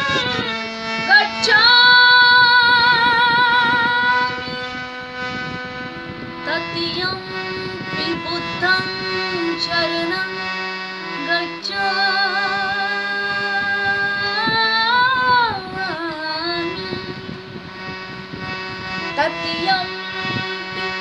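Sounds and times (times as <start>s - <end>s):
woman singing devotional song: 0.0s - 5.0s, 6.4s - 17.7s, 19.0s - 21.0s
instrumental backing: 0.0s - 21.0s.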